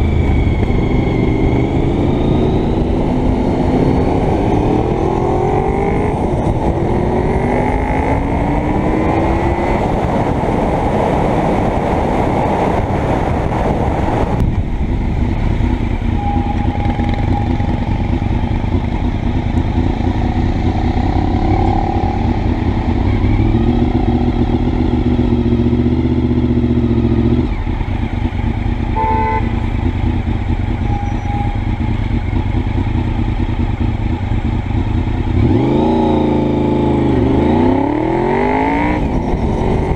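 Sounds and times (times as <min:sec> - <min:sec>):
wind noise: 0:00.0 - 0:28.3, 0:35.2 - 0:39.9
motorcycle engine: 0:00.0 - 0:39.9.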